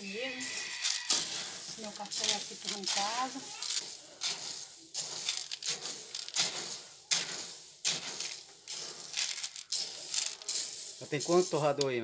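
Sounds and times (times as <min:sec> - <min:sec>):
coffee beans rattling in metal pan: 0:00.0 - 0:12.0.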